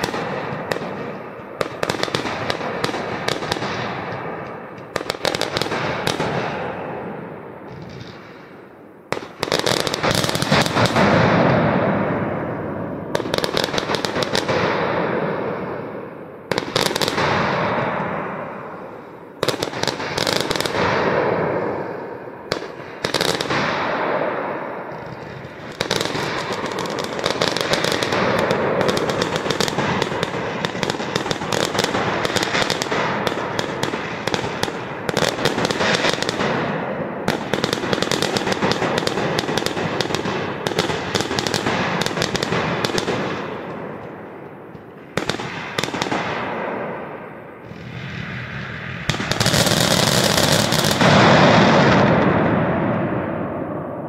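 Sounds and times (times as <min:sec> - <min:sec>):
firework crackle: 0:00.0 - 0:53.7.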